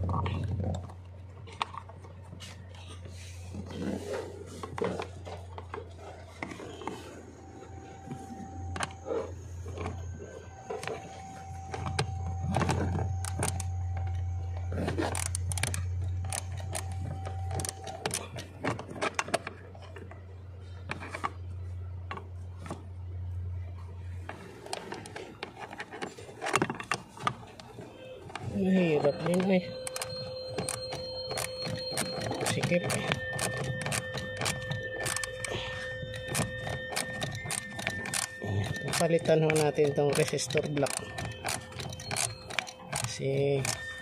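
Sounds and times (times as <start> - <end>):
hands rubbing and scraping plastic: 0.0 - 21.5, 24.2 - 44.0
steady low hum: 0.0 - 44.0.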